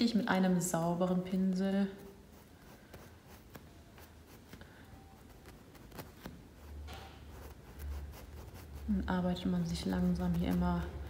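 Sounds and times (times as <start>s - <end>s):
paintbrush brushing on canvas: 0.4s - 11.0s.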